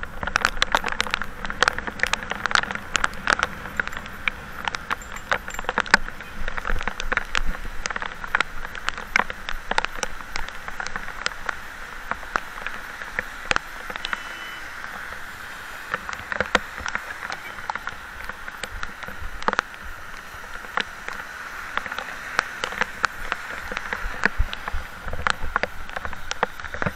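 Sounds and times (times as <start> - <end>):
raindrops ticking on hard surfaces: 0.0 - 26.9
steady rain: 0.0 - 26.9.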